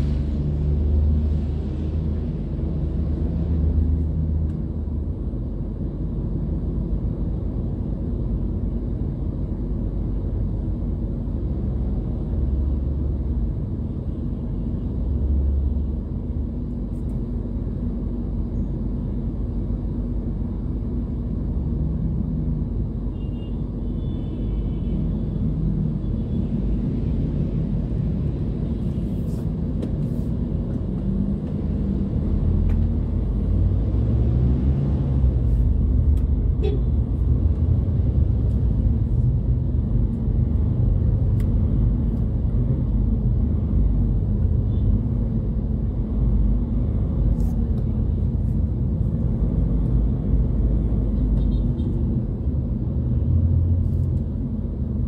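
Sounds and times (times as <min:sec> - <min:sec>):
car engine rumble: 0:00.0 - 0:23.8, 0:25.2 - 0:55.0
road noise: 0:00.0 - 0:55.0.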